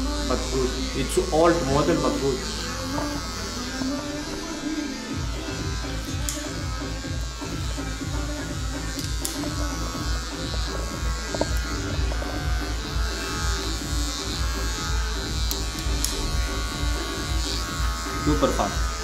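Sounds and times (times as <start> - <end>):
electric hair clippers buzzing: 0.0 - 19.0
background music with beat: 2.9 - 19.0.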